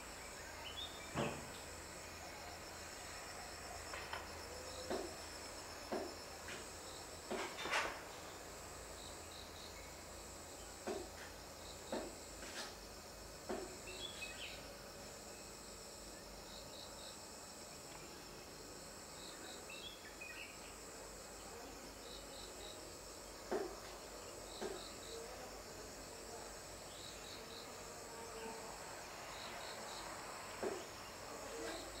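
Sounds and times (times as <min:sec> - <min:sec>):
cricket chirping: 0:00.0 - 0:32.0
insects trilling: 0:00.0 - 0:32.0.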